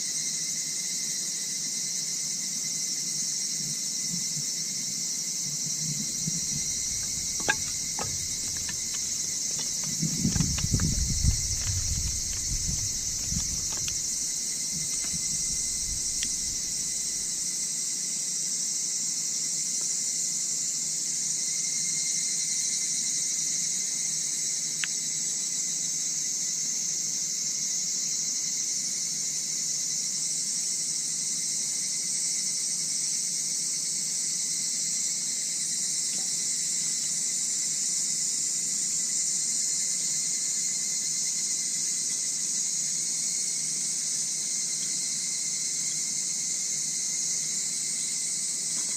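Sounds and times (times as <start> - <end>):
night insects droning: 0.0 - 48.9.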